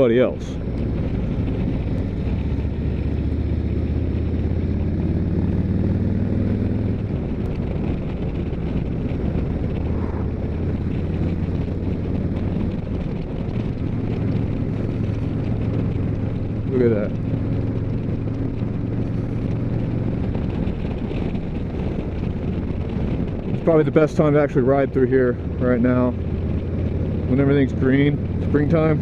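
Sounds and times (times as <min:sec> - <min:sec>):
motorcycle engine running: 0:00.0 - 0:29.0
wind rushing over microphone: 0:00.0 - 0:29.0.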